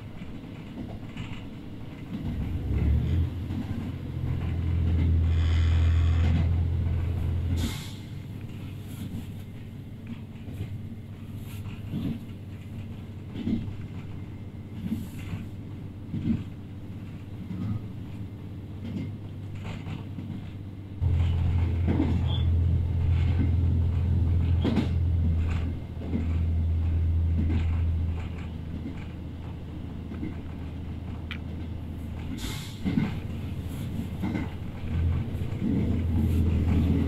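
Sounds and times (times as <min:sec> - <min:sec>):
railcar engine drone: 0:00.0 - 0:37.0.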